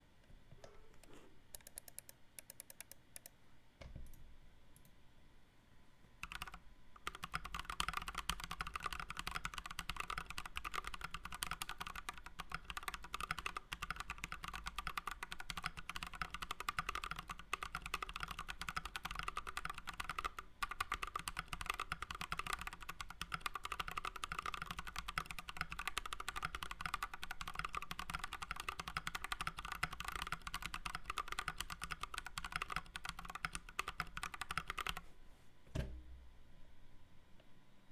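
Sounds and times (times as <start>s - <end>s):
mechanical keyboard typing: 1.0s - 3.3s, 6.2s - 35.0s.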